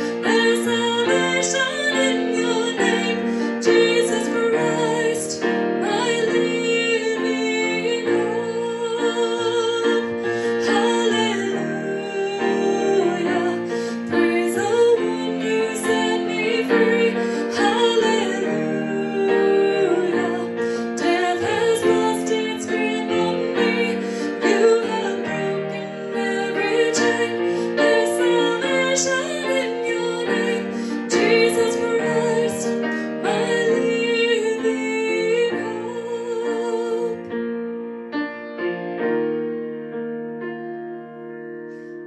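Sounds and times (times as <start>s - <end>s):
woman singing: 0.0s - 37.5s
piano accompaniment: 0.0s - 42.0s.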